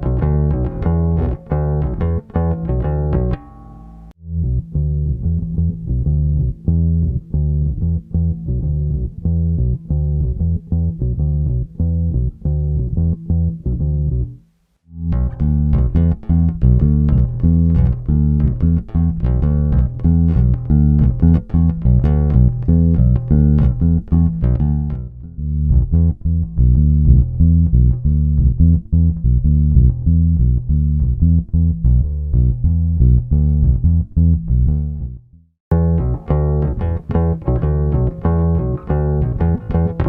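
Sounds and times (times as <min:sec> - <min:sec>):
bass guitar played with fingers: 0:00.0 - 0:40.0.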